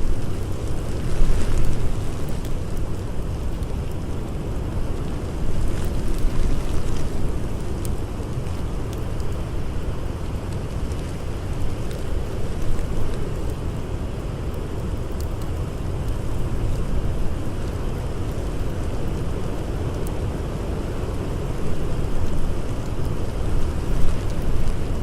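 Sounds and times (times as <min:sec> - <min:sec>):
blizzard wind rushing: 0:00.0 - 0:25.0
campfire crackling: 0:00.0 - 0:25.0.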